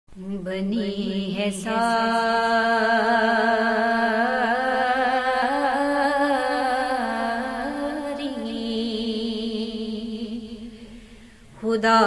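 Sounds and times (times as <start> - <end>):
woman singing: 0.2 - 11.0, 11.6 - 12.0.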